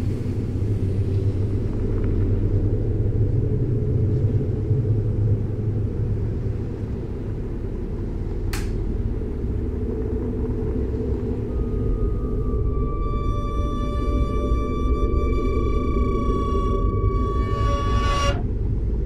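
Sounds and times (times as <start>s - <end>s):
low rumbling soundtrack drone: 0.0s - 19.0s.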